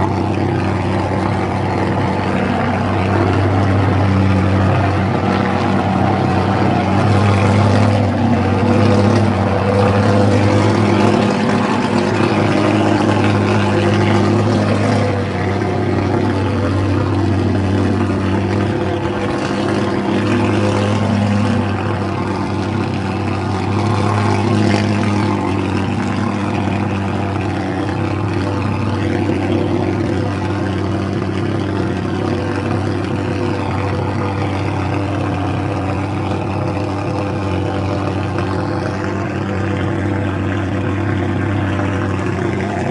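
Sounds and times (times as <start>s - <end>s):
pulse-jet fogger engine drone: 0.0s - 42.9s.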